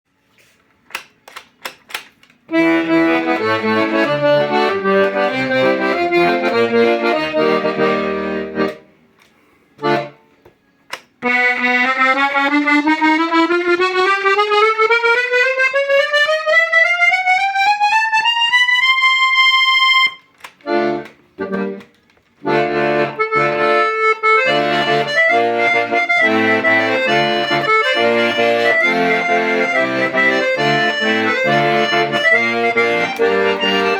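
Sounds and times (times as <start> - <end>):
accordion clicks: 0.8 - 33.9
accordion playing chords: 2.4 - 33.9.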